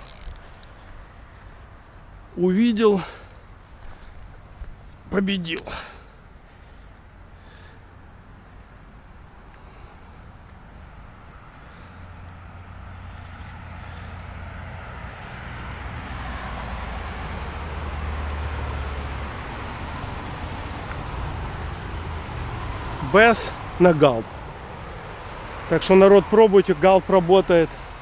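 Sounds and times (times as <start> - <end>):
faint crickets: 0.0 - 28.0
vehicle passing rumble: 0.0 - 28.0.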